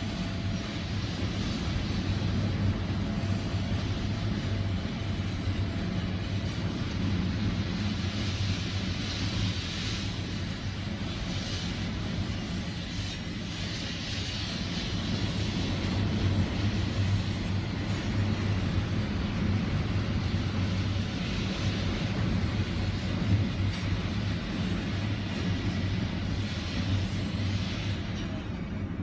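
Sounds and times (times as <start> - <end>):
steady low hum: 0.0 - 29.0
wind blowing across microphone: 0.0 - 29.0.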